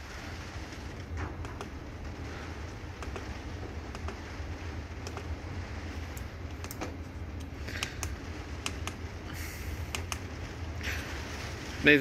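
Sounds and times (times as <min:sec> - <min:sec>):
heater humming: 0:00.0 - 0:12.0.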